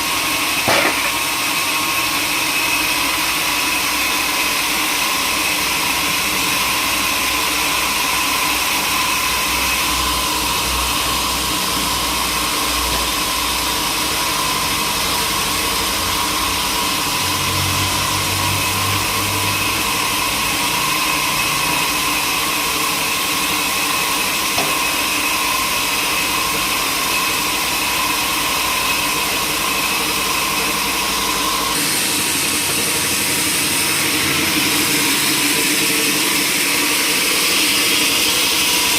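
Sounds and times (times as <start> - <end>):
sawmill machinery whining: 0.0 - 38.9.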